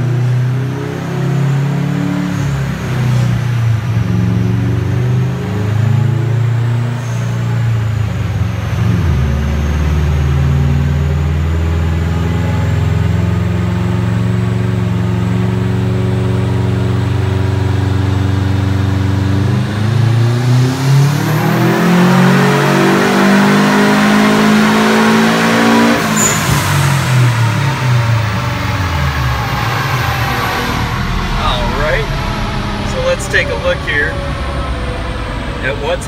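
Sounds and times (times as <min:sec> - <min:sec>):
turbocharged engine revving: 0:00.0 - 0:36.0.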